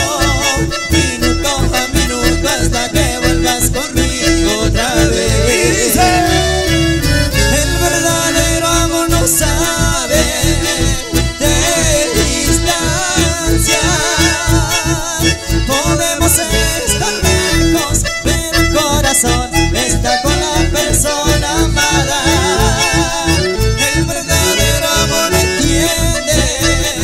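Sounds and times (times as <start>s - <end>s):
acoustic guitar: 0.0s - 27.0s
button accordion melody: 0.0s - 27.0s
electric bass: 0.0s - 27.0s.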